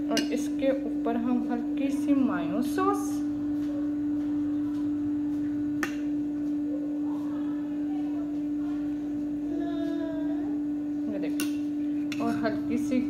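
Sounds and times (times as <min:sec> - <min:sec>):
steady single-pitched hum: 0:00.0 - 0:13.0.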